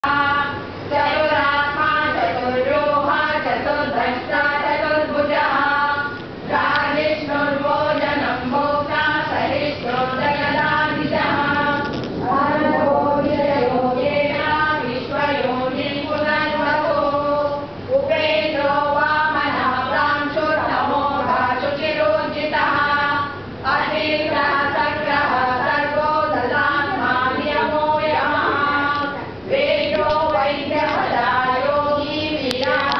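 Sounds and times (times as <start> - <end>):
women chanting in unison: 0.0 - 32.9.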